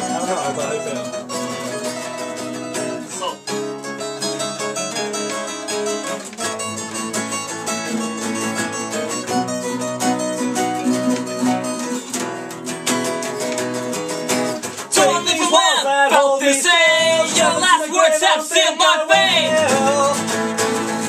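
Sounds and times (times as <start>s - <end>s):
acoustic guitars playing: 0.0s - 21.0s.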